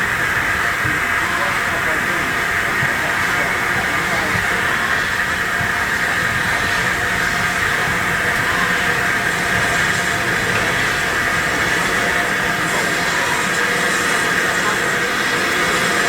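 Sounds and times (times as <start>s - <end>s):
steam locomotive rushing: 0.0s - 16.0s.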